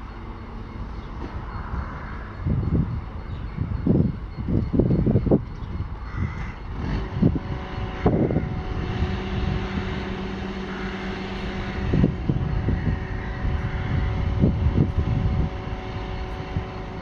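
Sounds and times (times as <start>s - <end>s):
freight train rumbling: 0.0s - 17.0s
wind buffeting microphone: 0.8s - 17.0s.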